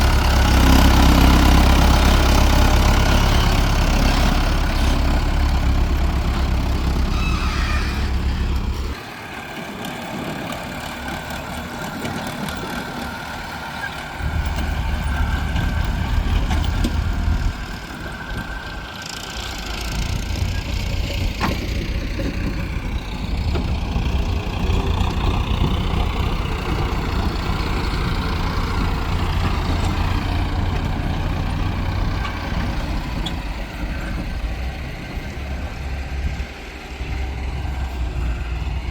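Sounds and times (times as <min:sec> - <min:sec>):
heavy diesel machinery engine rumble: 0:00.0 - 0:38.9.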